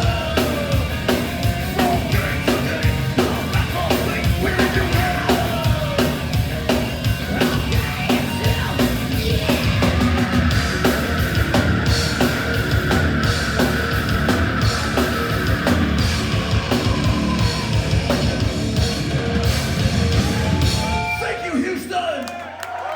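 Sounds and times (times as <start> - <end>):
fast dense drumming: 0.0 - 21.3
distorted guitars: 0.0 - 21.9.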